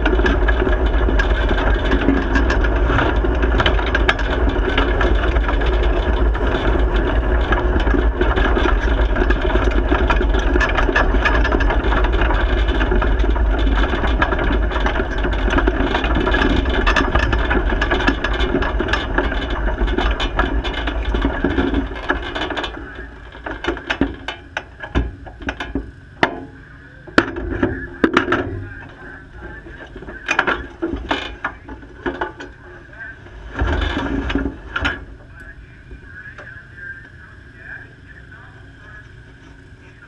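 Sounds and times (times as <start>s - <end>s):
sharp mechanical clicks and knocks: 0.0s - 35.6s
race car engine running: 0.0s - 40.0s.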